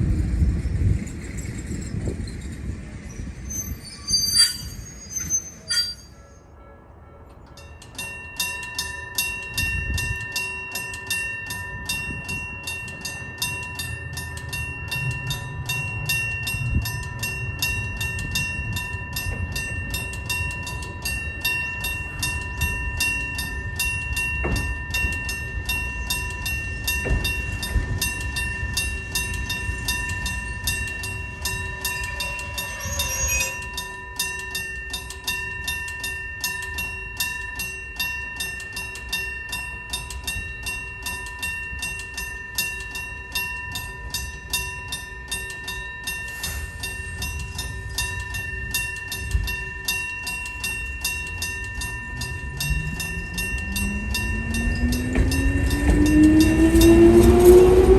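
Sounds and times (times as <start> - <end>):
electric train rumbling past: 0.0 - 57.9
level-crossing bell ringing: 4.3 - 57.9.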